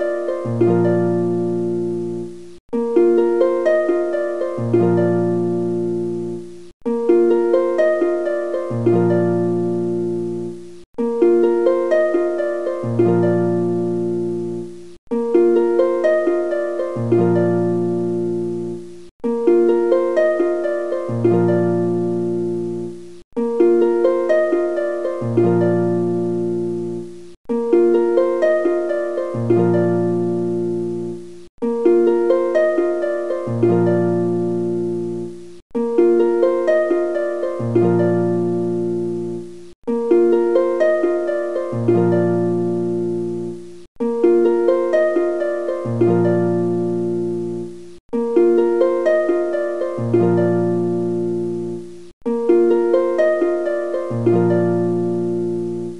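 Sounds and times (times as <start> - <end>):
plucked-string melody: 0.0 - 55.9.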